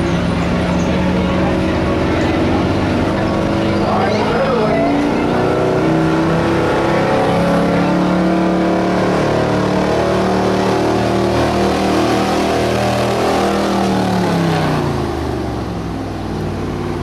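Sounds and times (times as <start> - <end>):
truck engine at high revs: 0.0 - 17.0.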